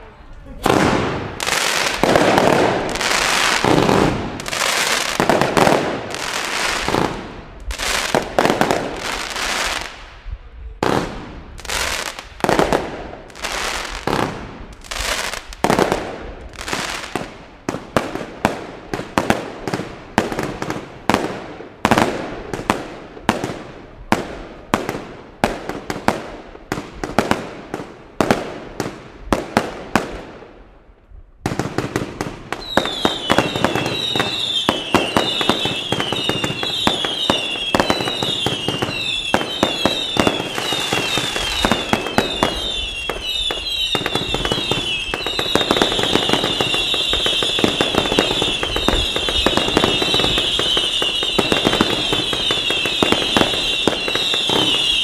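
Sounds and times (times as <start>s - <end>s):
fireworks bangs: 0.0s - 30.7s, 31.4s - 55.0s.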